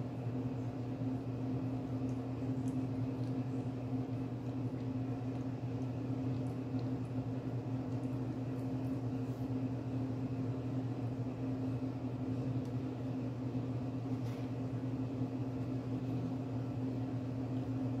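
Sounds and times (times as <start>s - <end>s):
appliance electrical hum: 0.0s - 18.0s.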